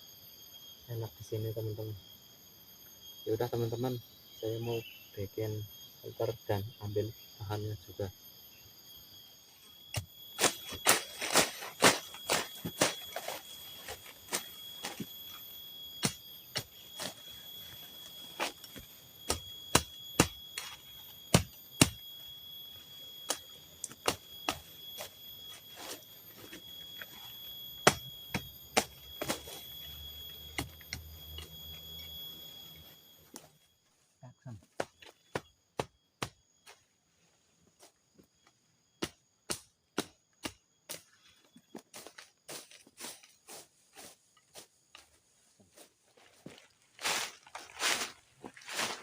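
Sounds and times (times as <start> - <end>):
forest insects droning: 0.0 - 49.0.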